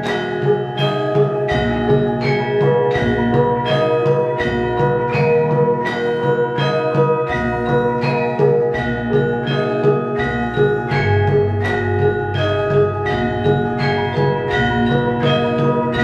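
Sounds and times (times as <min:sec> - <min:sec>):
metallophones struck in steady beat: 0:00.0 - 0:16.0.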